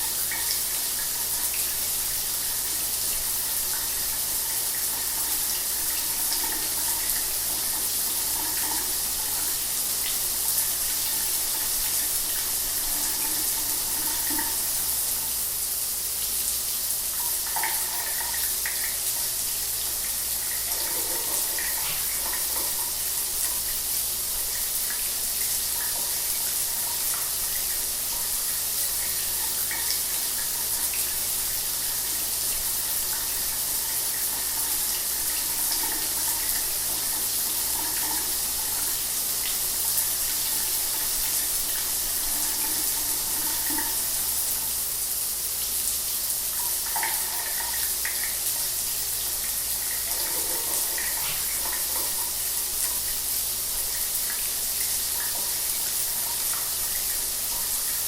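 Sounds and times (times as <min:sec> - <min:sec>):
shower water running: 0:00.0 - 0:58.0.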